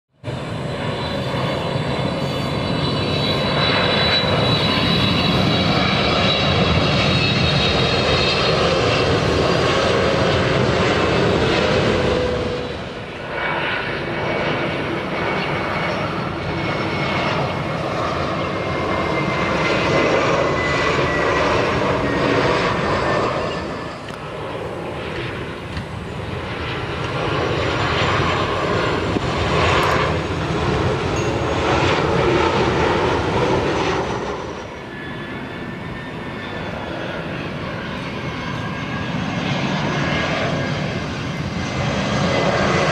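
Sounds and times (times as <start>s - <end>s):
jet airliner engine roar: 0.1s - 42.9s.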